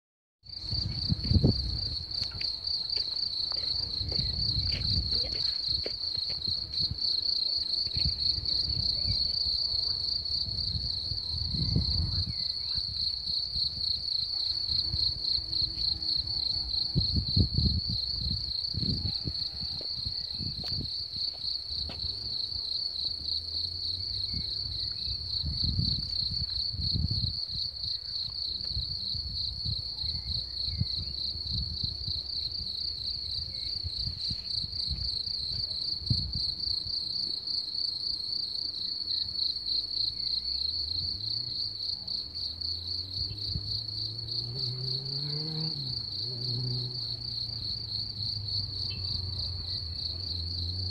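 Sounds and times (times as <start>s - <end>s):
crickets trilling: 0.5s - 50.9s.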